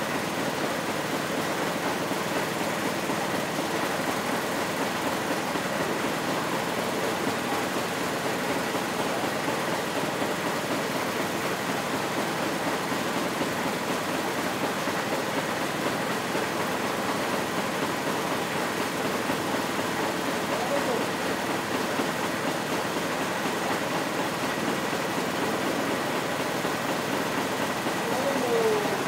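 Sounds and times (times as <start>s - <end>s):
fibre stripping machine drone: 0.0s - 29.0s.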